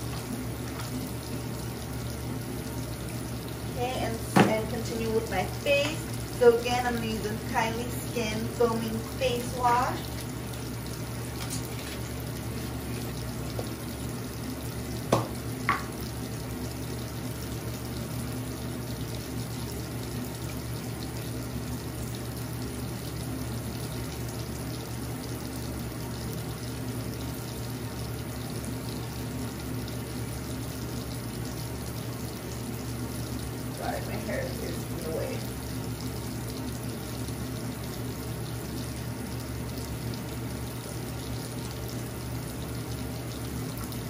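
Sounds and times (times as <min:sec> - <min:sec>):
sink faucet running: 0:00.0 - 0:44.0.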